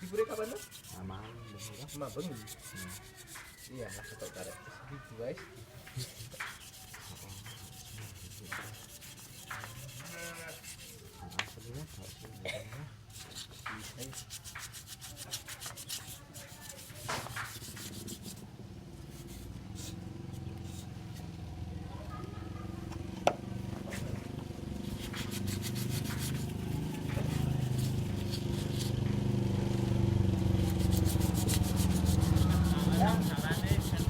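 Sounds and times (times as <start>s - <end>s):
scrubbing engine parts by hand: 0.0s - 34.0s.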